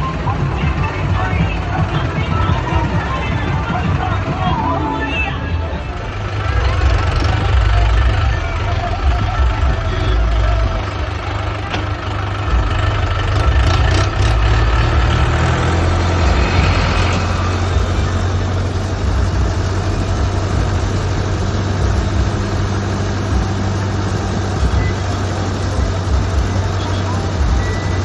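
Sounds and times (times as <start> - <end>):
tractor engines rumbling: 0.0 - 28.0.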